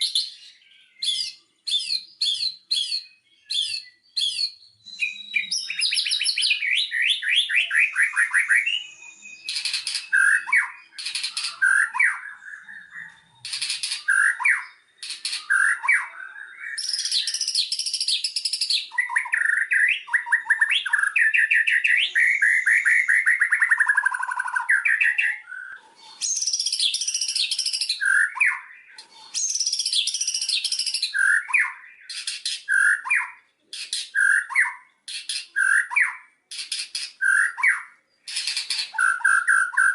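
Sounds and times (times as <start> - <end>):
songbird trills and whistles: 0.0 - 39.9.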